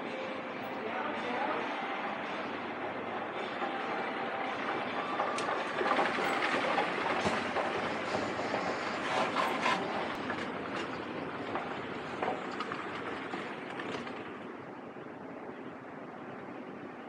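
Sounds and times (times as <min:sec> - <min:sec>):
escalator rumbling and rattling: 0:00.2 - 0:16.6.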